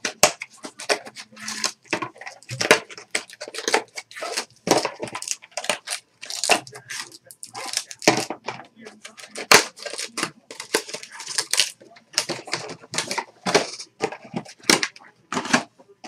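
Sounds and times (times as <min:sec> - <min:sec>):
wrapper crinkling and tearing: 0:00.0 - 0:08.3, 0:09.0 - 0:15.6.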